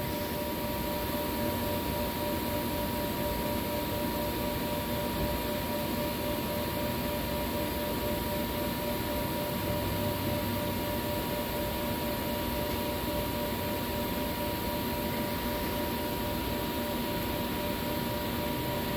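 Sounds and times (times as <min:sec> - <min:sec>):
machine hum with whining tones: 0:00.0 - 0:18.9.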